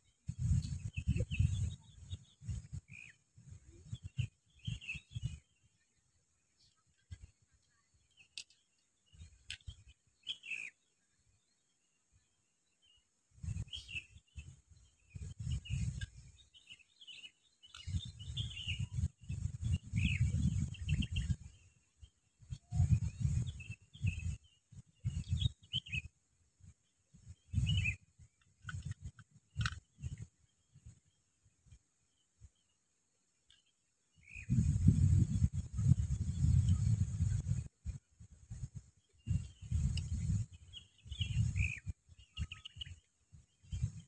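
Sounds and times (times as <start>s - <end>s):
wind rumbling on microphone: 0.0s - 6.0s, 6.6s - 10.8s, 12.8s - 32.7s, 33.6s - 44.0s
birds chirping: 0.0s - 32.8s, 33.4s - 44.0s.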